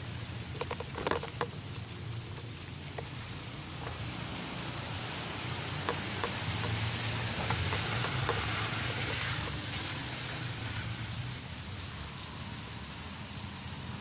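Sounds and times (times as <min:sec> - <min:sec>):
dripping ticks: 0:00.0 - 0:13.8
rain hissing: 0:00.0 - 0:14.0.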